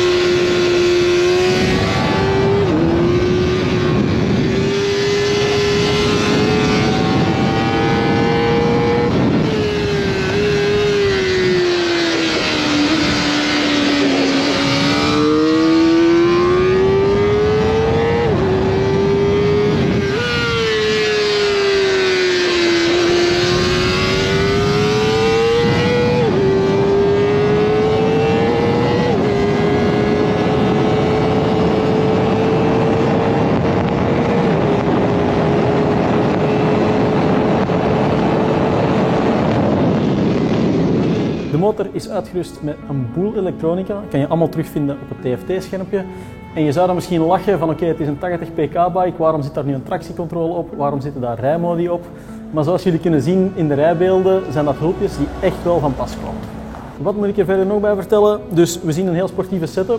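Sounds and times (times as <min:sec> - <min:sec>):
motorcycle engine revving high: 0:00.0 - 0:50.8, 0:51.7 - 0:59.9.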